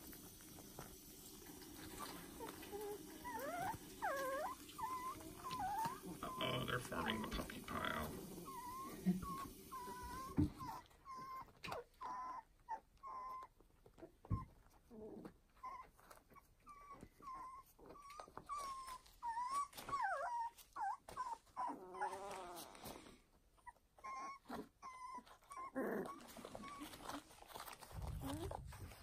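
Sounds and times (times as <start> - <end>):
puppies whimpering and squeaking: 1.8 - 23.0, 23.6 - 29.0.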